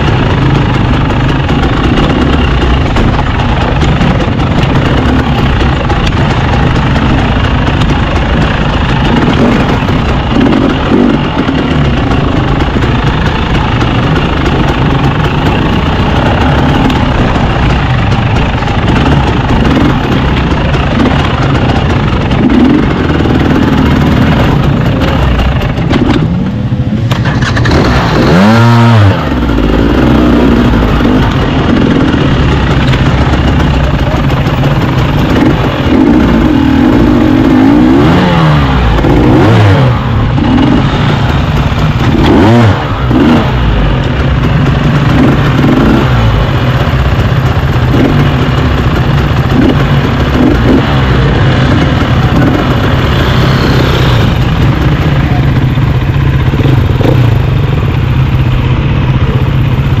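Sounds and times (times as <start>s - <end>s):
two-stroke motorcycle engine revving: 0.0s - 60.0s.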